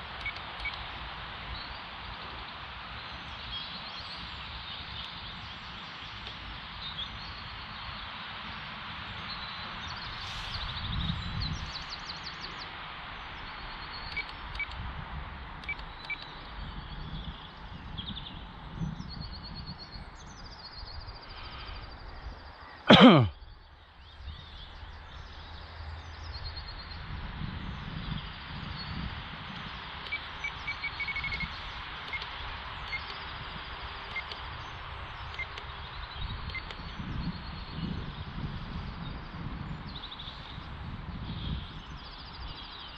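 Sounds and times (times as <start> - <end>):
wind buffeting microphone: 0.0 - 22.6, 23.4 - 42.9
small birds chirping: 0.0 - 42.9.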